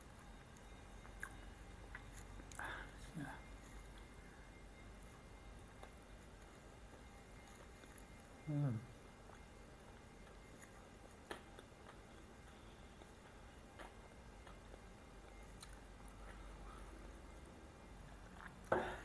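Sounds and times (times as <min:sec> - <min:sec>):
quiet chewing: 0:00.0 - 0:19.0.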